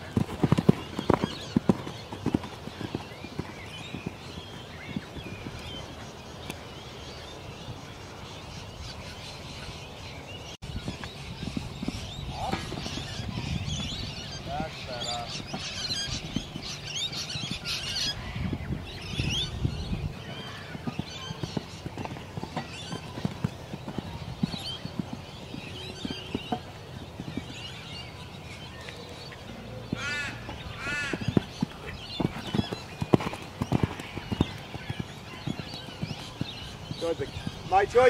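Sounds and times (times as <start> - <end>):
horse hooves cantering on sand: 0.0 - 6.8, 10.7 - 18.1, 20.2 - 38.0
birds calling: 0.0 - 38.0.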